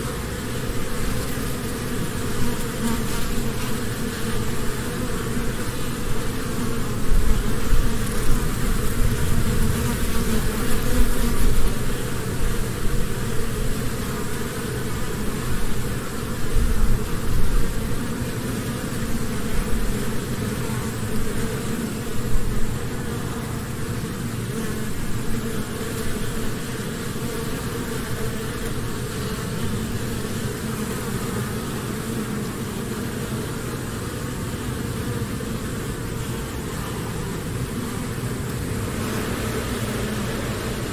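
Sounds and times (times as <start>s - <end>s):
bees buzzing in hive: 0.0s - 40.9s.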